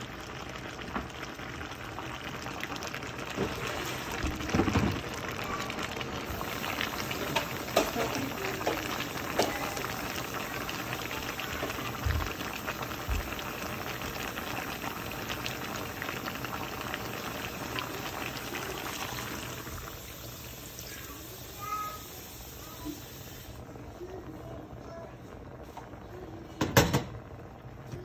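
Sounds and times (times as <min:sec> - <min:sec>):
pot bubbling and popping: 0:00.0 - 0:28.0.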